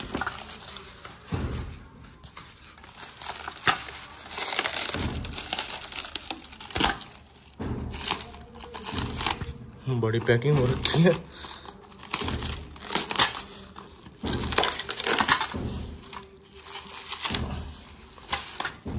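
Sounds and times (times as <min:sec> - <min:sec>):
packaging wrap crinkling and tearing: 0:00.0 - 0:01.3, 0:02.6 - 0:18.9.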